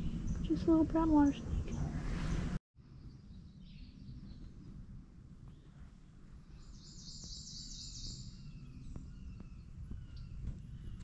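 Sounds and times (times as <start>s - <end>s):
songbird trill: 0.0s - 11.0s.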